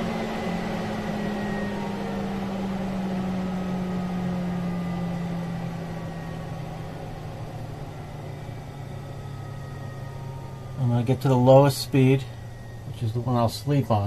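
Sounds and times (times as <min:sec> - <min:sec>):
vent fan whirring: 0:00.0 - 0:14.0.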